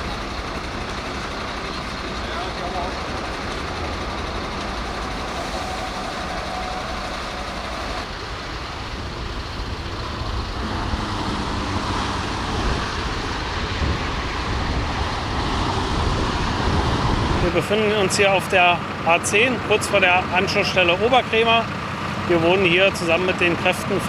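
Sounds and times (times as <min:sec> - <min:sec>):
lorry engines passing: 0:00.0 - 0:24.0
motorway traffic: 0:00.0 - 0:24.0.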